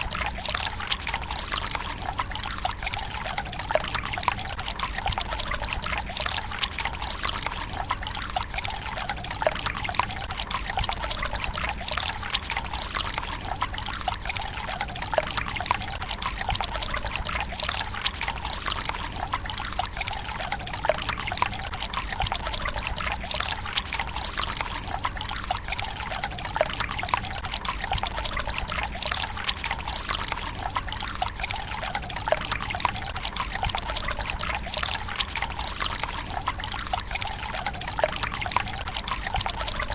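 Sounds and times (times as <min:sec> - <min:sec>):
water pouring into stone basin: 0:00.0 - 0:39.9
water splashes and drips: 0:00.0 - 0:39.9.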